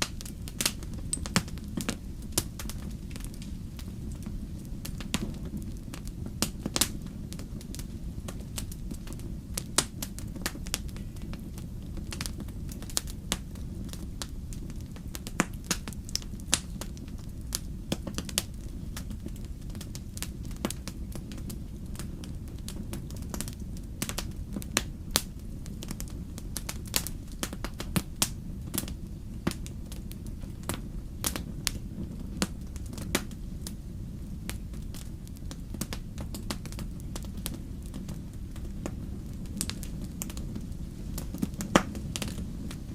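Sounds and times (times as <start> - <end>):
burning wood crackling and popping: 0.0 - 42.9
low rumble of flames: 0.0 - 42.9.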